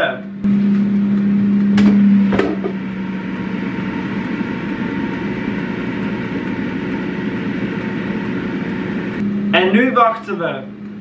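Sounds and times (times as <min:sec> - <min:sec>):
airfryer fan whirring: 0:00.0 - 0:11.0.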